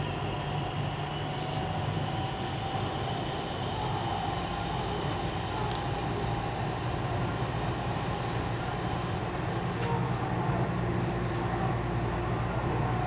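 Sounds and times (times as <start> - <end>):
faint steady whine: 0.0 - 13.0
train rumbling inside carriage: 0.0 - 13.0.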